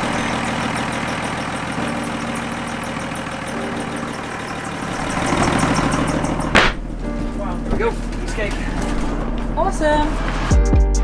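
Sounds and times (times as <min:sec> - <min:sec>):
diesel engine running: 0:00.0 - 0:10.6.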